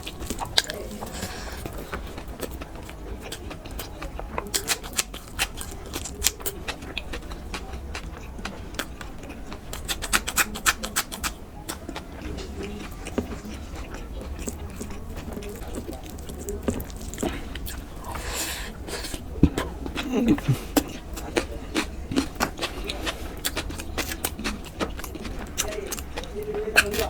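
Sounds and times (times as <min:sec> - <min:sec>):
person chewing crunchy food: 0:00.0 - 0:27.0.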